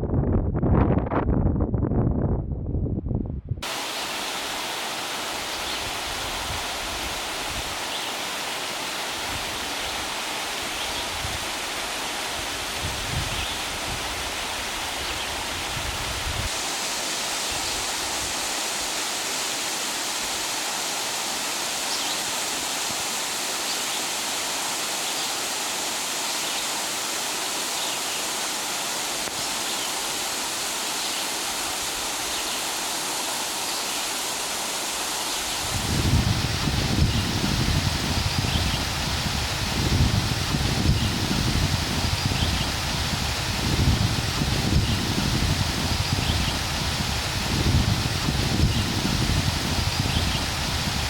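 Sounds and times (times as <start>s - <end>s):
waterfall rushing: 3.6s - 51.0s.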